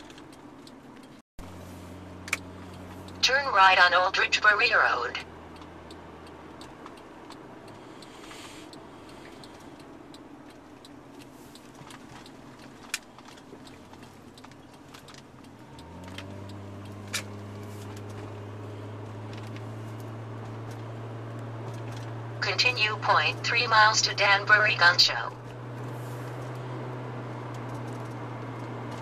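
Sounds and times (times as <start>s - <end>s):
car engine drone: 0.0s - 29.0s
road noise inside car: 0.0s - 29.0s.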